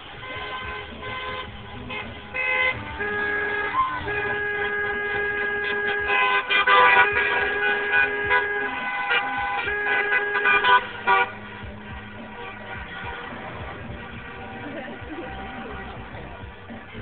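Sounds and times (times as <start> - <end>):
car horns honking: 0.0 - 17.0.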